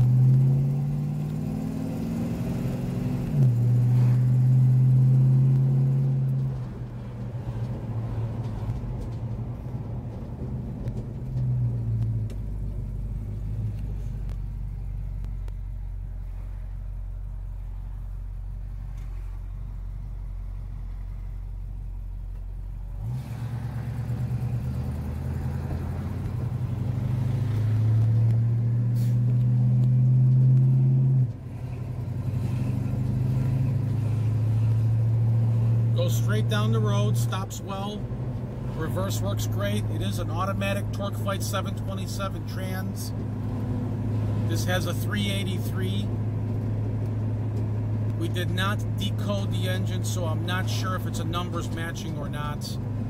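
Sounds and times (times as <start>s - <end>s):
car engine revving: 0.0s - 16.8s, 22.8s - 53.0s.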